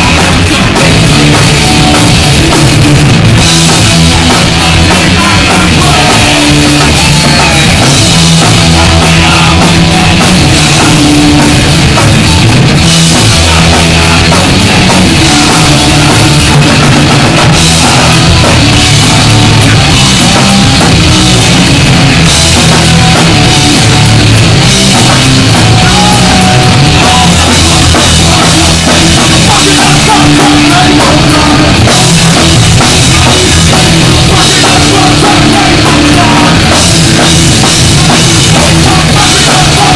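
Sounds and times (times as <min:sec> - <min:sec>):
live punk band playing: 0:00.0 - 0:39.9.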